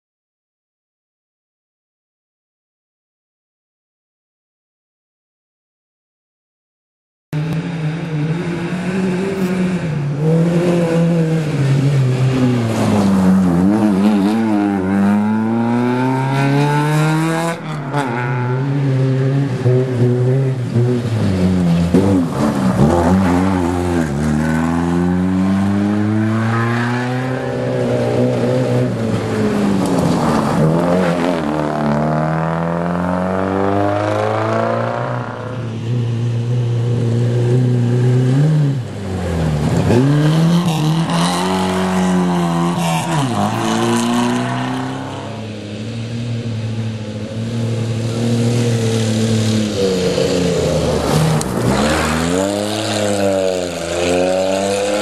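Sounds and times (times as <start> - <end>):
race car engines revving: 7.4 - 55.0.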